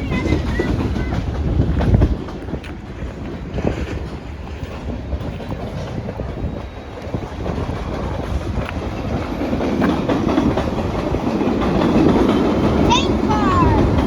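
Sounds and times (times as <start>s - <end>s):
freight train cars rumbling past: 0.0s - 14.0s
wind buffeting microphone: 0.0s - 14.0s.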